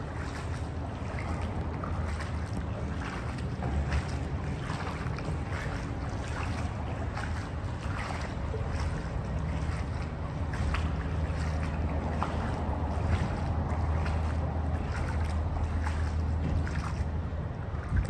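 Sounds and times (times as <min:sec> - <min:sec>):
low rumble with hiss: 0:00.0 - 0:18.0.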